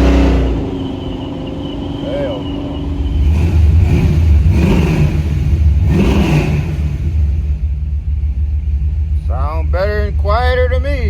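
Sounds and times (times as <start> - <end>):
car engine and exhaust drone: 0.0 - 11.0.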